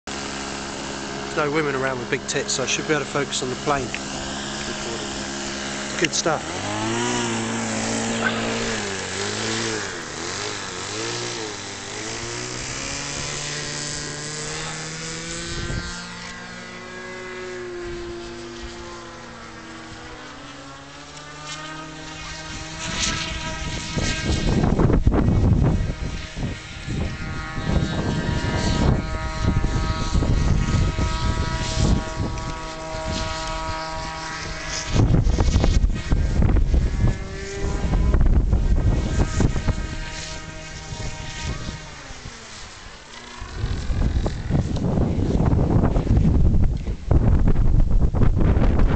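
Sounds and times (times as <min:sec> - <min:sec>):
model aircraft engine droning: 0:00.0 - 0:48.9
wind buffeting microphone: 0:00.6 - 0:48.9.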